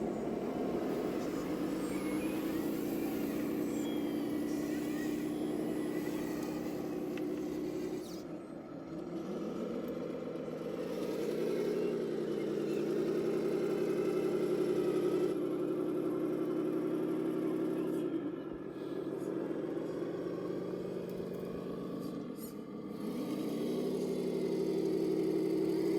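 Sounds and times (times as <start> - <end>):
simulated diesel engine sound: 0.0 - 25.9.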